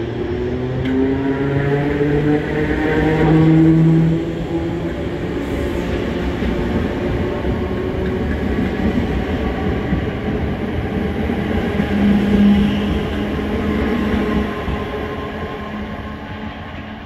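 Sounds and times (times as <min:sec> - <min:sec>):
electric train running past: 0:00.0 - 0:17.0.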